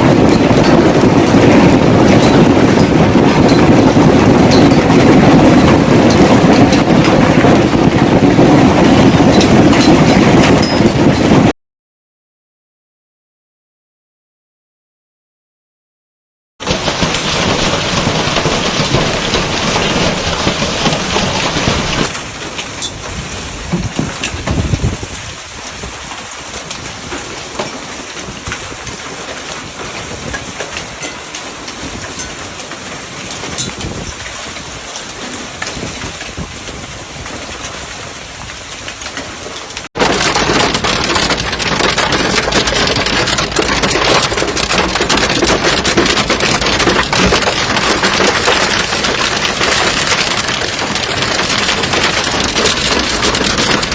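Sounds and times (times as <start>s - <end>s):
hail rattling: 0.0s - 11.5s, 16.6s - 36.8s, 39.9s - 53.9s.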